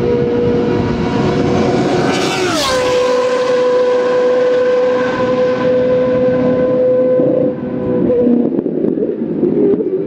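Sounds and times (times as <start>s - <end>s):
racing car passing at full throttle: 0.0s - 8.3s.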